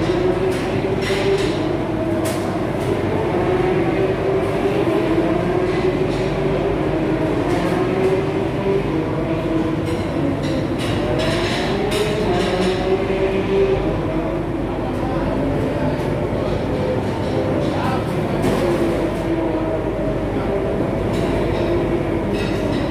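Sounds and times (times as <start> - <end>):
kitchen machinery humming: 0.0 - 22.9.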